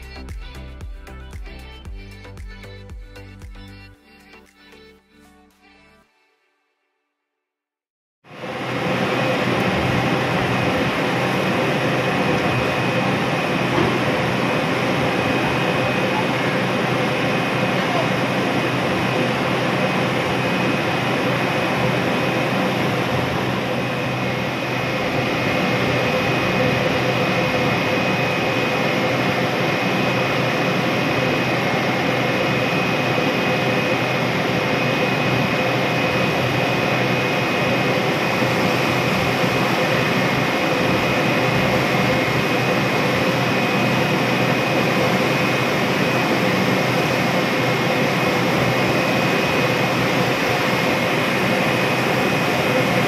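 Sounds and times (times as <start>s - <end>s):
ship engines droning: 8.3s - 53.0s
thin high whine: 8.3s - 53.0s.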